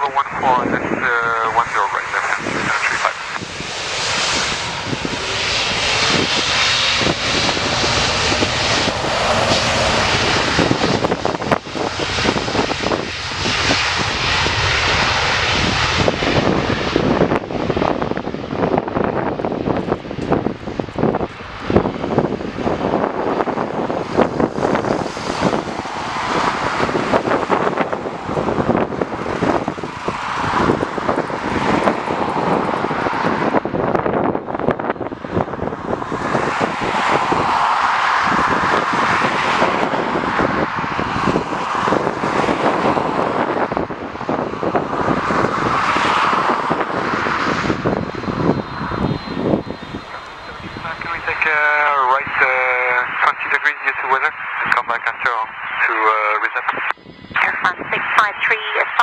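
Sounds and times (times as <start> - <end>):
wind buffeting microphone: 0.0 - 53.6, 56.6 - 58.7
jet engines running: 0.0 - 59.0.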